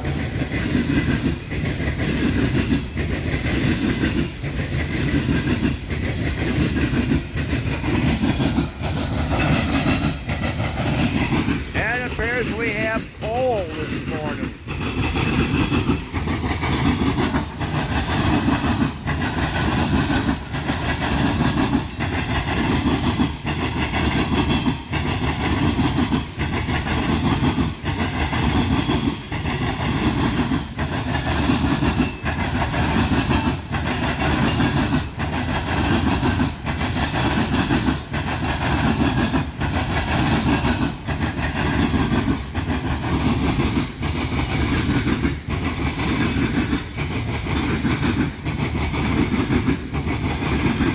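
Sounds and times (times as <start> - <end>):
train wheels clattering: 0.0 - 13.2, 13.9 - 50.9
rail rumble: 0.0 - 50.9.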